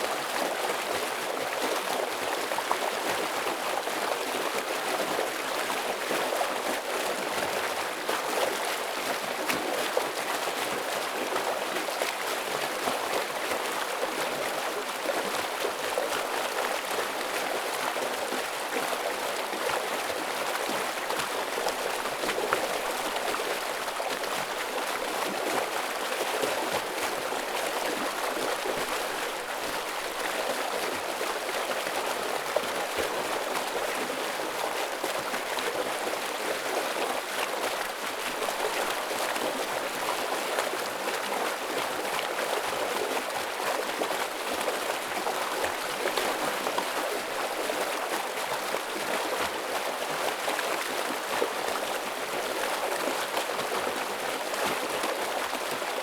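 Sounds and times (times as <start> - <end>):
stream flowing heavily: 0.0 - 56.0.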